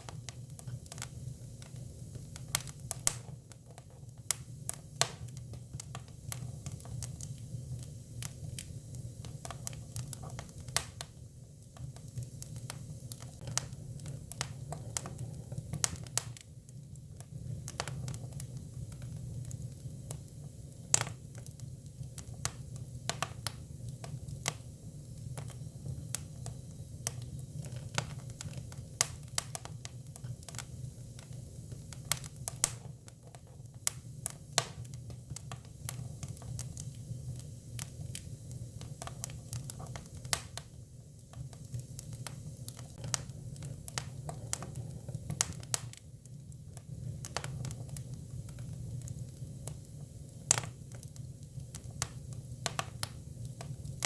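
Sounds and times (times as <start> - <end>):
crackles and pops of fire: 0.0 - 54.0
firewood burning: 0.0 - 54.0.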